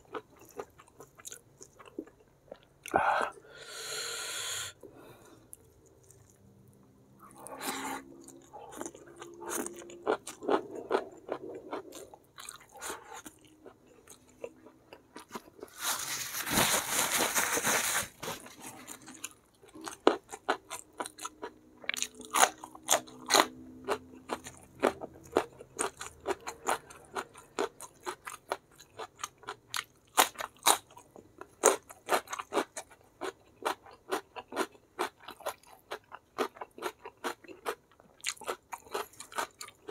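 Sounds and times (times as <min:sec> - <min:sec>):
person chewing and crunching: 0:00.0 - 0:03.4, 0:05.2 - 0:39.9.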